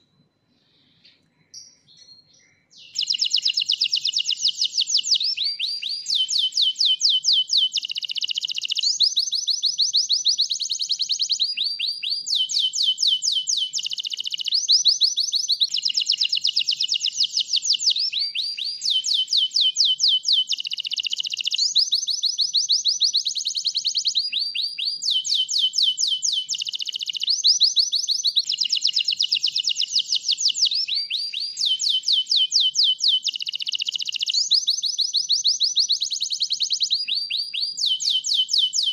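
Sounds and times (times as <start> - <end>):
canary singing trills: 0.9 - 38.9.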